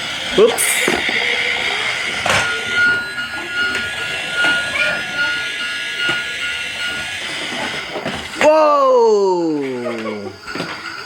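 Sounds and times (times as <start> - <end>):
toy motor whining: 0.0 - 11.0.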